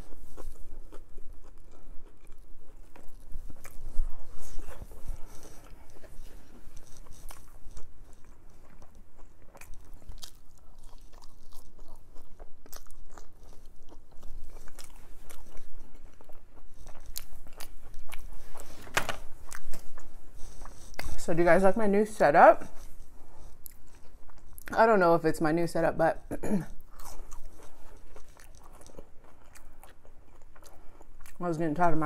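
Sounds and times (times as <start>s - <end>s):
person chewing crunchy food: 0.0s - 21.3s, 22.7s - 24.7s, 26.6s - 31.4s.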